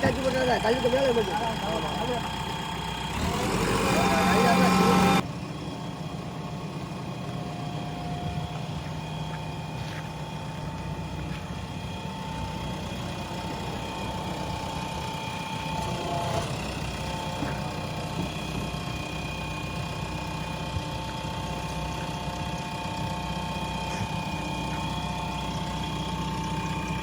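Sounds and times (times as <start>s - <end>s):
diesel engine running at low revs: 0.0s - 27.0s
faint whining tones: 0.0s - 27.0s.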